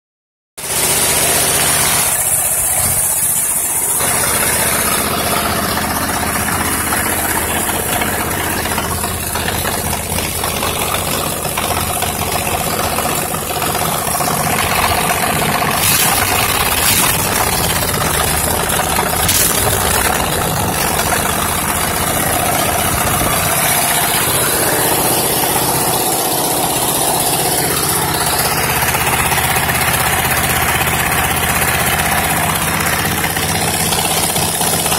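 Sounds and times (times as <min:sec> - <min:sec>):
small engine running: 0:00.6 - 0:34.9.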